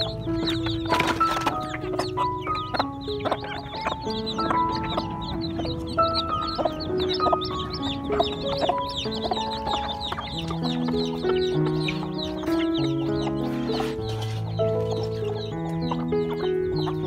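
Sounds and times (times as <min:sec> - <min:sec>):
chickens clucking: 0:00.0 - 0:17.0
chicks peeping: 0:00.0 - 0:17.0
music with long held notes: 0:00.0 - 0:17.0.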